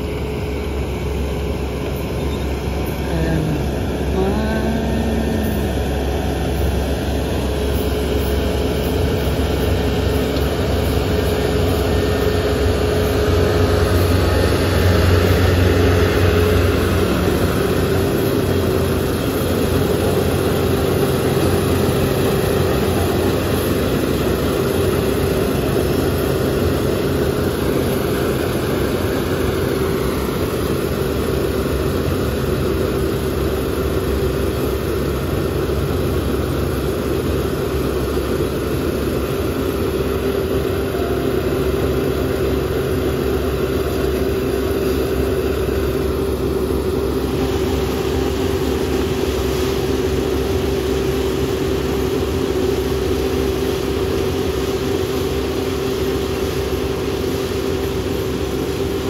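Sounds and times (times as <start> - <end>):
combine harvester engine drone: 0.0 - 59.0
constant whine: 0.0 - 59.0.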